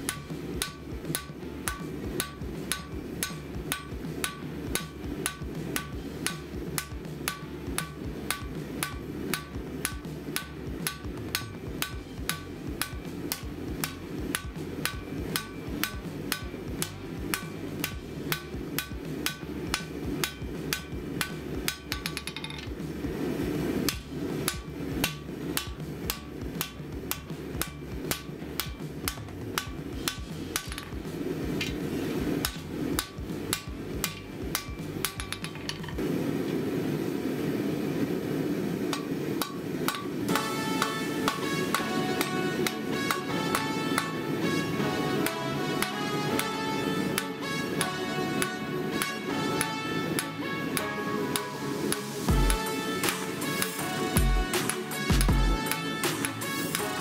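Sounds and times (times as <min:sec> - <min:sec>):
steady low rumble: 0:00.0 - 0:22.0, 0:22.6 - 0:35.4, 0:36.0 - 0:57.0
hammer striking blade on anvil: 0:00.0 - 0:22.8, 0:23.8 - 0:31.0, 0:31.6 - 0:35.9, 0:38.9 - 0:57.0.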